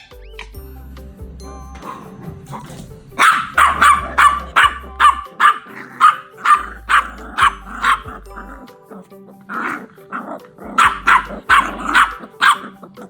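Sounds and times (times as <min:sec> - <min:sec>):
dog barking: 0:01.8 - 0:13.0.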